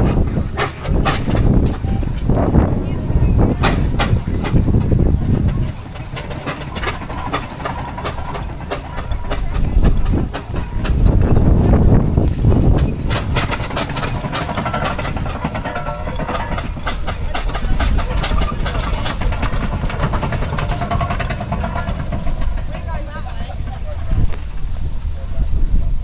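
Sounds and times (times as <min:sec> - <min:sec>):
steam road engine rumbling: 0:00.0 - 0:26.0.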